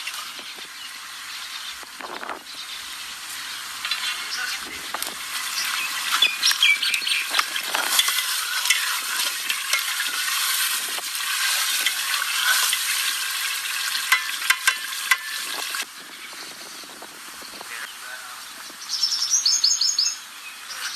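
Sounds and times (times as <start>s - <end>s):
food sizzling in a pan: 0.0s - 17.8s.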